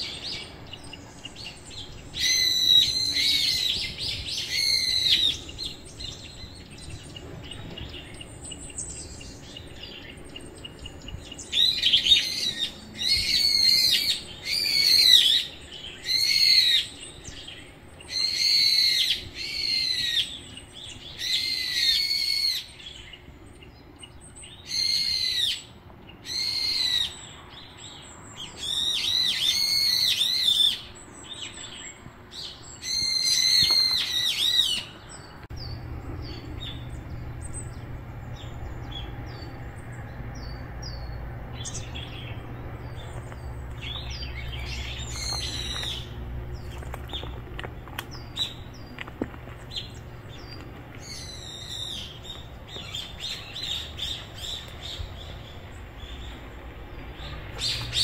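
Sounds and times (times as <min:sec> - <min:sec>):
bird calling: 0:00.0 - 0:58.0.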